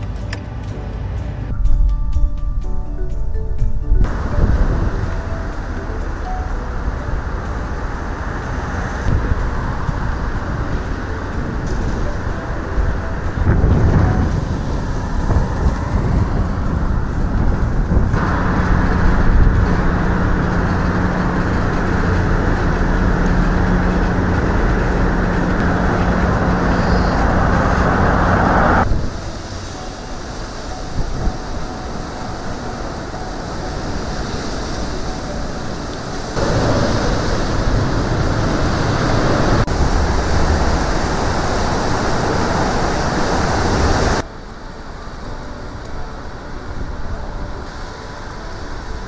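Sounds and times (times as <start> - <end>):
road traffic rushing: 0.0 - 1.9, 3.9 - 49.0
low steady hum: 3.7 - 49.0.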